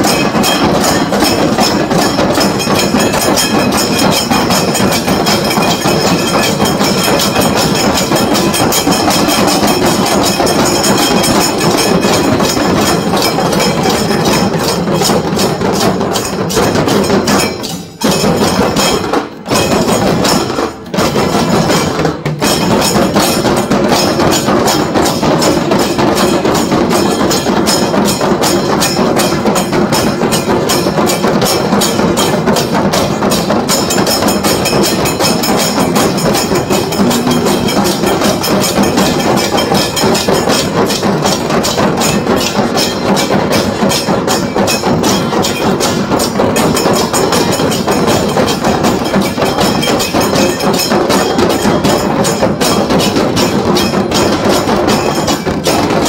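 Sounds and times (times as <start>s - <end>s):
drums beaten in fast rhythm: 0.0s - 56.0s.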